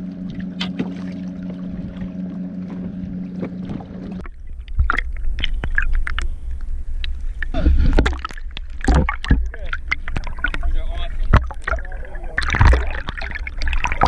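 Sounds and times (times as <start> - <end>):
water splashing: 0.0 - 14.0.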